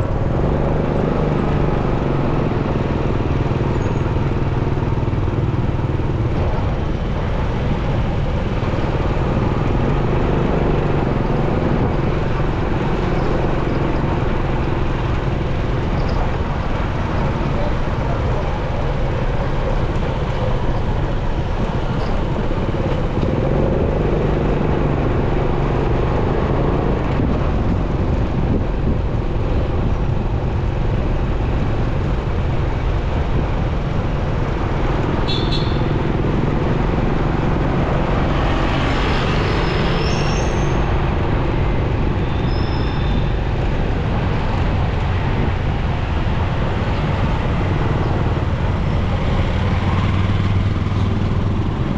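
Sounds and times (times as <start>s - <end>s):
motorcycle engine hum: 0.0s - 51.9s
road and wind noise: 0.0s - 51.9s
vehicles passing: 0.0s - 51.9s.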